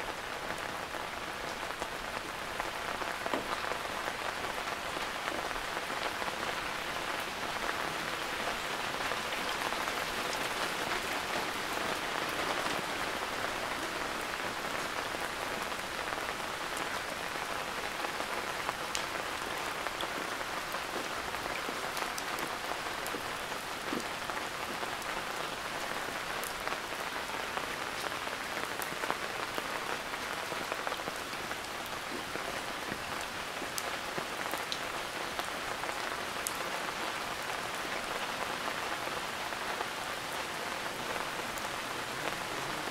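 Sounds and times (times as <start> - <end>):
steady rainfall: 0.0 - 42.9.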